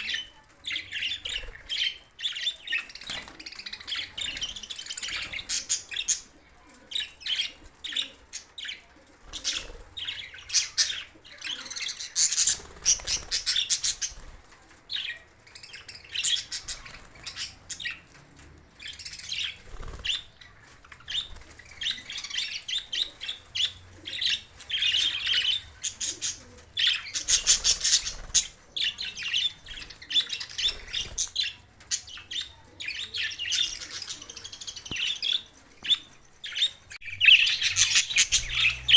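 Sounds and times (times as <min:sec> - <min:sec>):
budgies chirping: 0:00.0 - 0:38.9.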